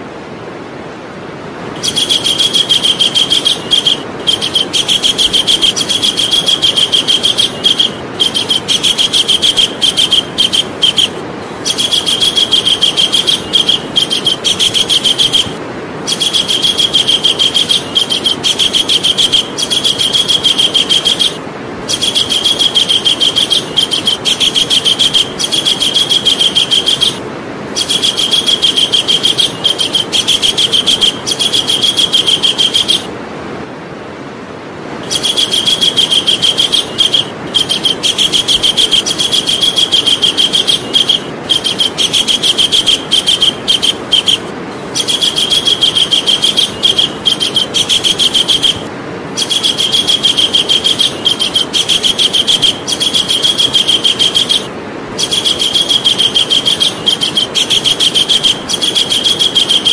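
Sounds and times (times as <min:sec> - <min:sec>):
steady hiss: 0:00.0 - 0:59.9
kingfisher fast high calls: 0:01.8 - 0:33.1, 0:35.0 - 0:59.9.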